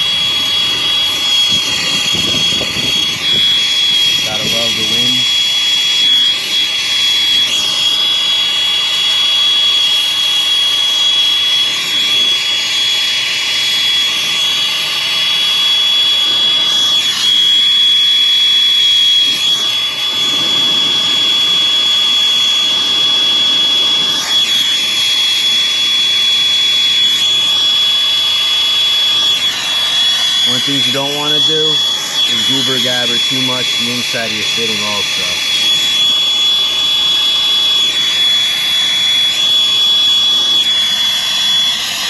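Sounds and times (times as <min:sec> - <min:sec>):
high whistle: 0:00.0 - 0:42.0.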